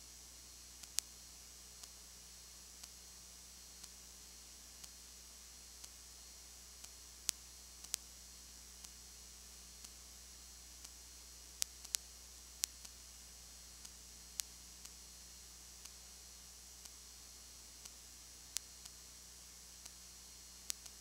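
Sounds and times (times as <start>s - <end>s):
faint hiss and hum: 0.0s - 21.0s
faint ticks: 0.2s - 21.0s.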